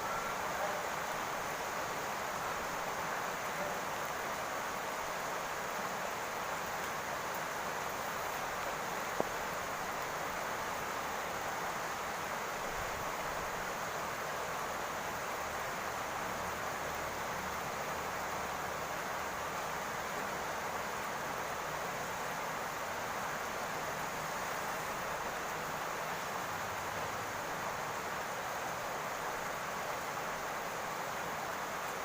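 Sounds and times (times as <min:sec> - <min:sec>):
rain falling on a roof: 0:00.0 - 0:32.0.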